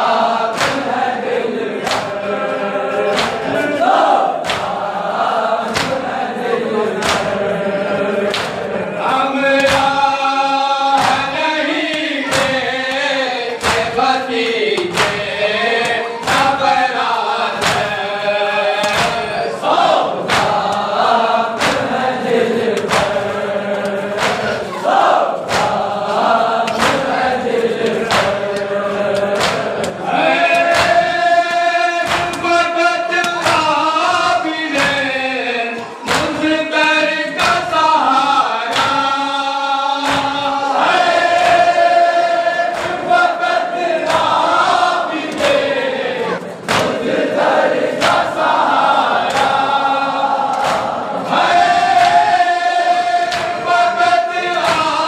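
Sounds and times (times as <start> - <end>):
men chanting in unison: 0.0 - 55.0
hands slapping chests: 0.4 - 2.3, 2.9 - 6.2, 6.9 - 7.5, 8.2 - 8.8, 9.4 - 35.2, 35.8 - 39.3, 39.9 - 55.0.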